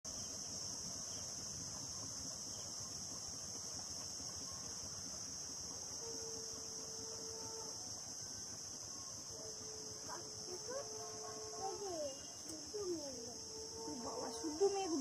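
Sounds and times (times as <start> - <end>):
insects droning: 0.1 - 15.0.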